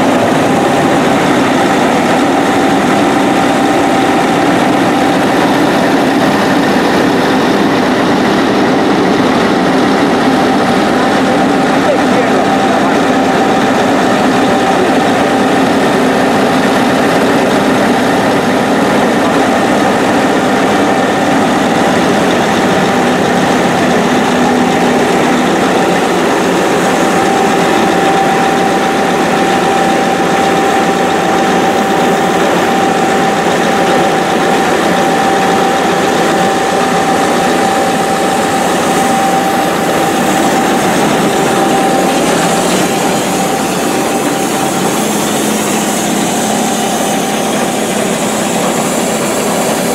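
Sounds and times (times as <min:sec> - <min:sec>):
diesel pump engine running: 0:00.0 - 0:49.9
steady whine: 0:00.0 - 0:49.9.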